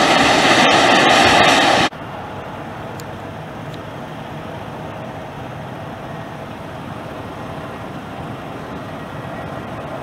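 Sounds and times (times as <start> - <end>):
jet engines rumbling: 0.0 - 10.0
faint engine whine: 1.5 - 10.0.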